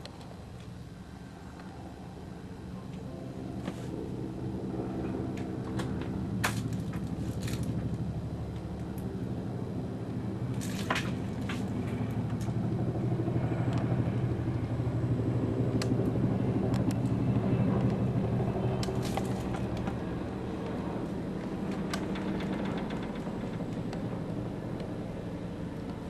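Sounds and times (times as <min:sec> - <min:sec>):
helicopter rotor drone: 0:00.0 - 0:26.0.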